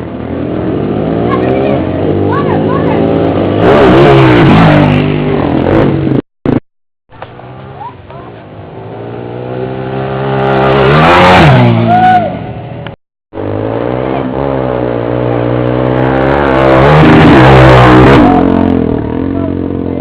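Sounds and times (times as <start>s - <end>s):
motorcycle passing at speed: 0.0s - 6.6s, 7.2s - 20.0s.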